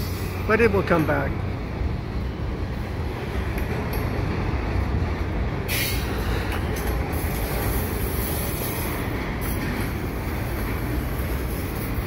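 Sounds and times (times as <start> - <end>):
train cars rolling on rails: 0.0 - 12.0.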